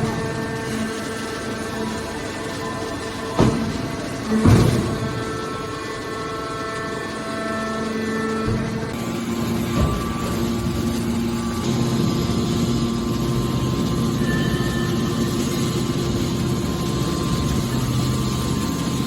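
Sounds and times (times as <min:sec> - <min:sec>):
hydraulic baler humming: 0:00.0 - 0:19.0.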